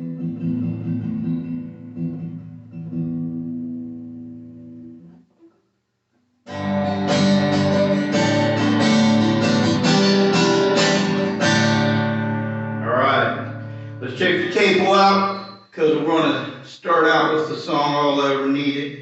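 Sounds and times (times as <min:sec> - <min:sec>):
acoustic guitar strumming chords: 0:00.0 - 0:05.2, 0:06.5 - 0:18.4.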